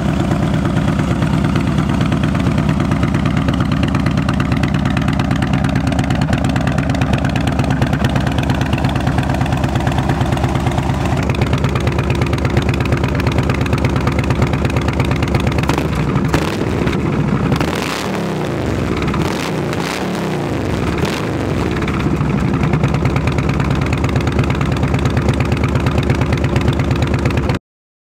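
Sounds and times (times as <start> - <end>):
motorcycle engine revving: 0.0 - 27.5
motorcycle engine idling: 0.0 - 27.6.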